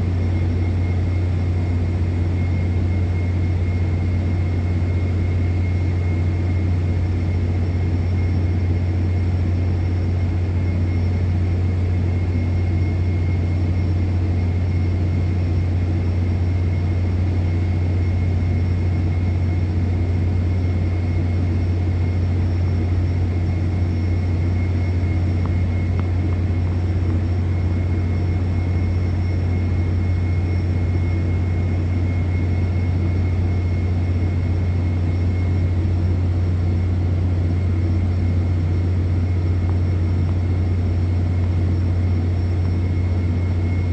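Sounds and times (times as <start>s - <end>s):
faint high whine: 0.0s - 43.9s.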